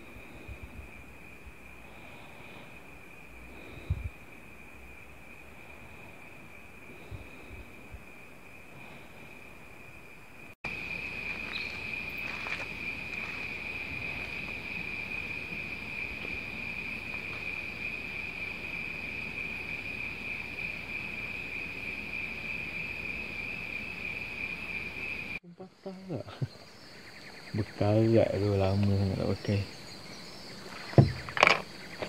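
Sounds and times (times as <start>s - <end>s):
night insects chorus: 0.0s - 32.0s.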